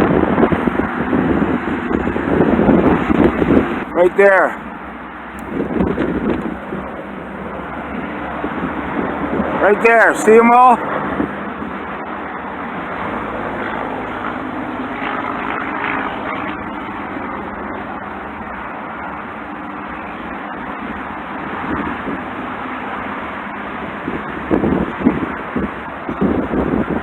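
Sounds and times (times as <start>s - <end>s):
road traffic hum and hiss: 0.0s - 27.0s.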